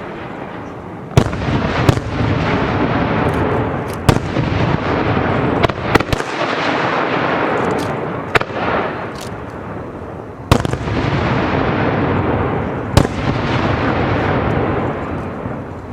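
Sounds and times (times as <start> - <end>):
continuous noisy wash: 0.0 - 15.9
fireworks bangs: 0.0 - 15.9.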